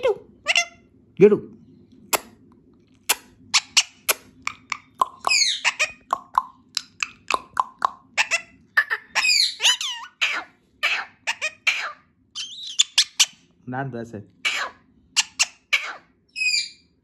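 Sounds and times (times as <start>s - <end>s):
parakeet chattering: 0.0s - 0.9s, 3.1s - 13.5s, 14.4s - 17.0s.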